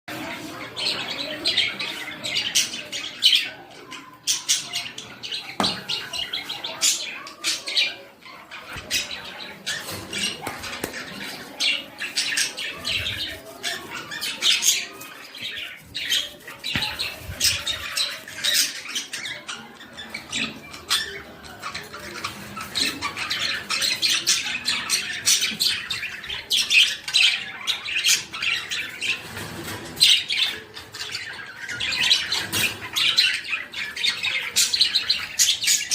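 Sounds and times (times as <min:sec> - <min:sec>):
budgerigars chirping and squawking: 0:00.1 - 0:35.9.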